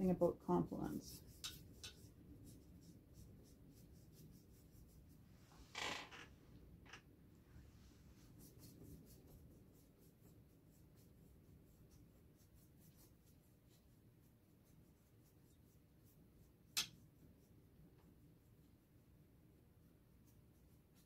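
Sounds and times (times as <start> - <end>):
paintbrush strokes on board: 0.0 - 5.5, 7.6 - 21.0.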